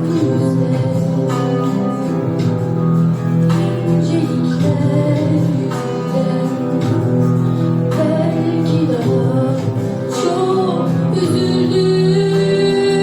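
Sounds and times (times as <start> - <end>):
person singing: 0.0 - 2.6, 3.4 - 13.0
guitar accompaniment: 0.0 - 13.0.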